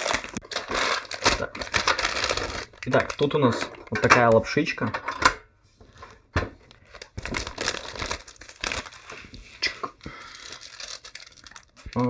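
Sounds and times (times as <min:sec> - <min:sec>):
plastic packaging crinkling: 0:00.0 - 0:04.6, 0:05.9 - 0:12.0.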